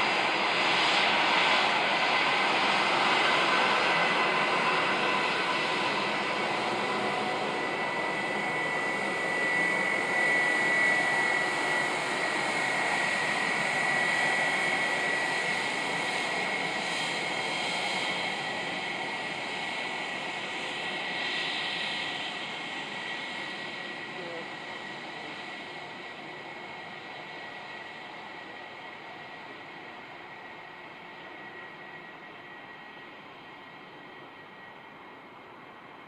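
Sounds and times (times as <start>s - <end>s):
jet engines whining: 0.0s - 34.9s.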